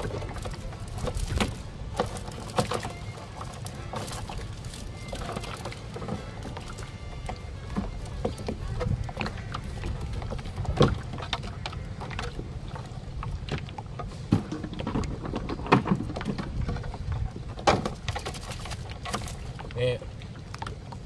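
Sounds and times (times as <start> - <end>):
knocks and clatter in wooden boat: 0.0 - 21.0
low rumble of water: 0.0 - 21.0.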